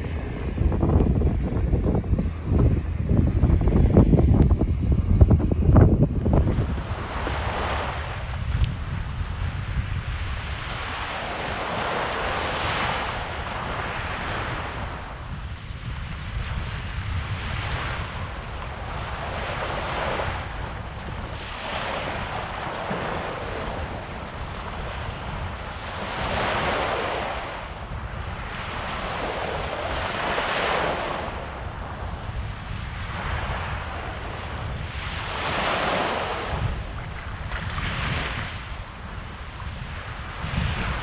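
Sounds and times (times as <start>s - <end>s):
waves breaking on beach: 0.0s - 41.0s
wind rumble on microphone: 0.0s - 41.0s.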